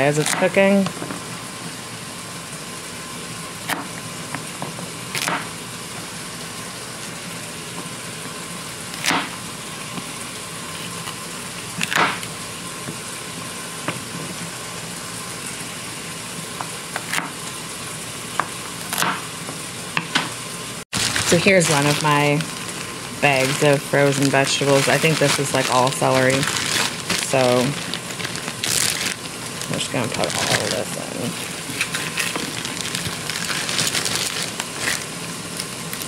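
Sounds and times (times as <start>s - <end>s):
chicken sizzling in a frying pan: 0.5s - 30.2s, 31.3s - 36.0s.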